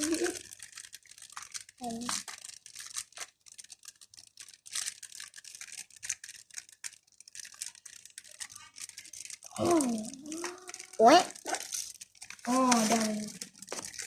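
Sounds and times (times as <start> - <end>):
plastic packaging scratching and rustling: 0.0 - 14.0.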